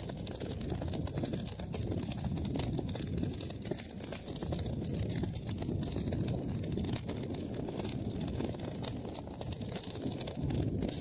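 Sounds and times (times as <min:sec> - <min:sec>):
low rumble of burning: 0:00.0 - 0:11.0
wood fire crackling: 0:00.0 - 0:11.0.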